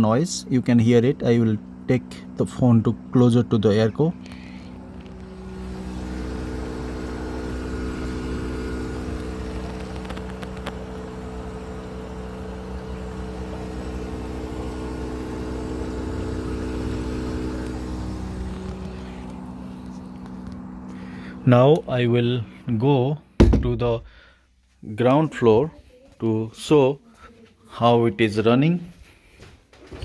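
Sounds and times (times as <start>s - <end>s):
air conditioner unit humming: 0.0s - 29.9s.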